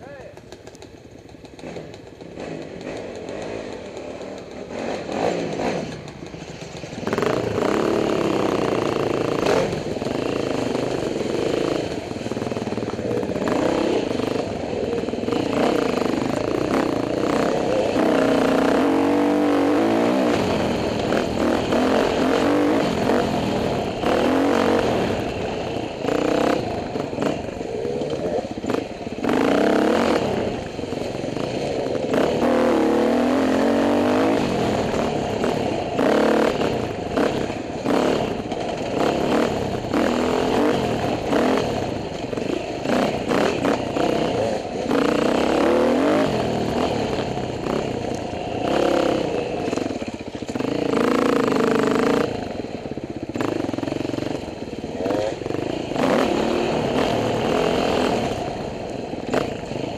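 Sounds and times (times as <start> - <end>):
dirt bike engine revving: 1.5 - 59.9.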